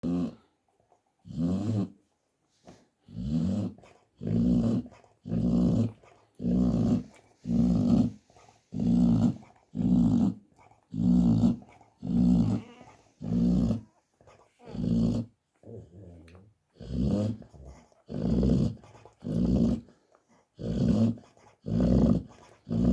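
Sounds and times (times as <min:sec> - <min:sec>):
dog snoring: 0:00.0 - 0:00.5, 0:01.2 - 0:02.0, 0:03.1 - 0:13.9, 0:14.6 - 0:15.3, 0:16.0 - 0:19.9, 0:20.6 - 0:22.9.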